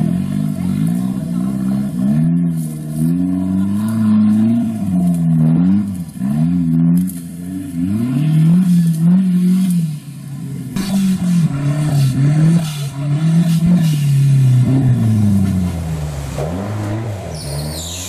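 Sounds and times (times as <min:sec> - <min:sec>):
engine revving hard: 0:00.0 - 0:10.0, 0:10.7 - 0:18.0.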